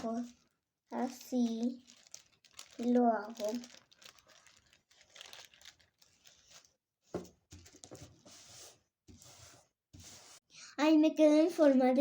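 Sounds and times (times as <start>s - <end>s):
tissue paper rustling: 0.0s - 10.4s.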